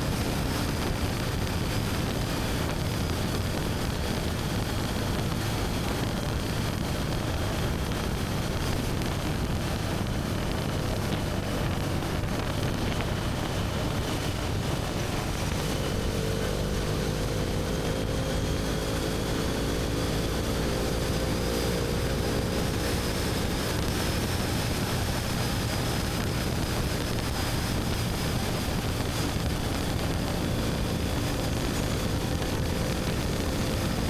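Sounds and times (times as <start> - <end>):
motorcycle engine cruising: 0.0 - 34.0
wind and tyre rush: 0.0 - 34.0.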